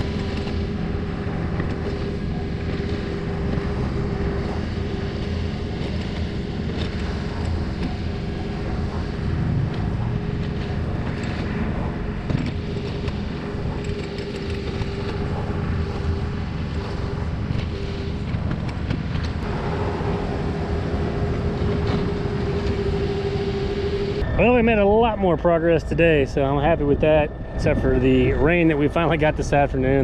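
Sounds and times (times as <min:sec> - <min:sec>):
excavator diesel engine running: 0:00.0 - 0:30.0
steady whine: 0:00.0 - 0:30.0.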